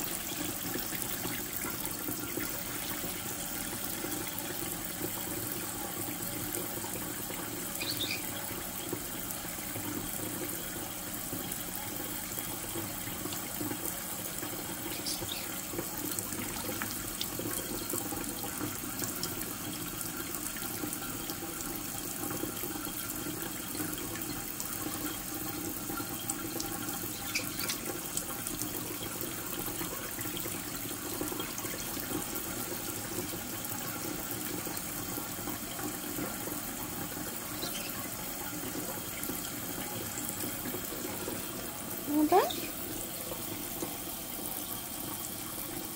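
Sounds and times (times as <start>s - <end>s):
faucet stream splashing in sink: 0.0s - 45.9s.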